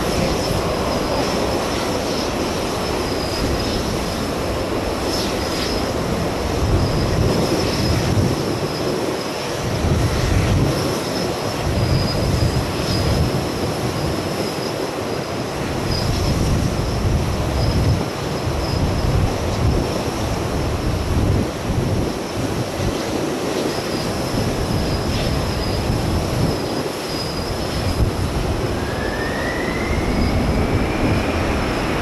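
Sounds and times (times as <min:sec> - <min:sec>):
wind buffeting microphone: 0:00.0 - 0:14.6, 0:15.3 - 0:32.0
jet engines whining: 0:00.0 - 0:32.0.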